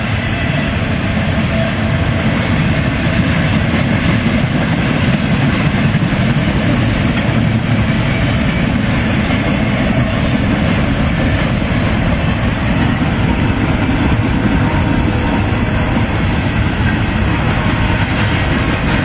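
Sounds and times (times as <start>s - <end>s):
freight train rumbling and rattling: 0.0s - 19.0s.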